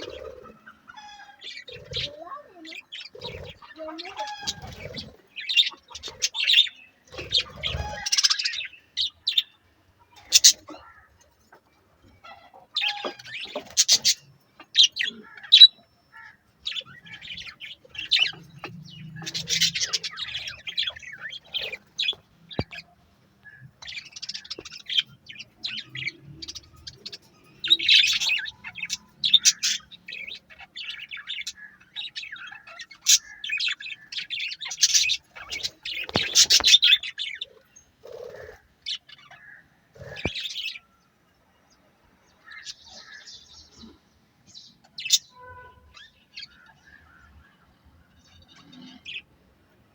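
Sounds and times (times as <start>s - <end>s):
budgerigars chirping and chattering: 0.0s - 41.0s, 41.6s - 49.4s.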